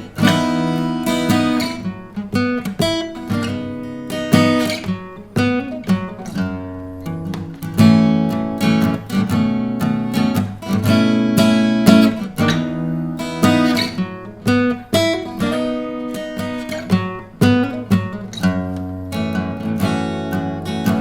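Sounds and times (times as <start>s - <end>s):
acoustic guitar strummed and picked: 0.0s - 21.0s.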